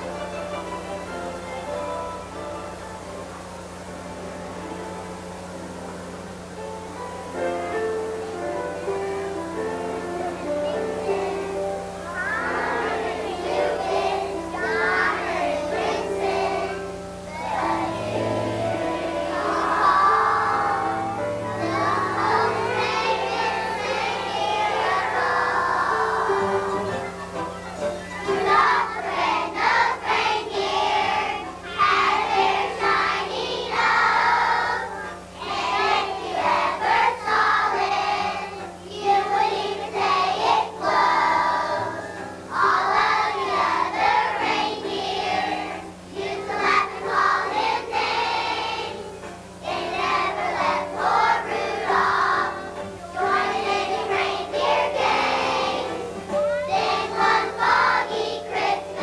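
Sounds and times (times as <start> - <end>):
children's choir singing: 0.0 - 3.9, 4.8 - 59.0
low electrical hum: 0.0 - 59.0
musical accompaniment: 0.0 - 59.0.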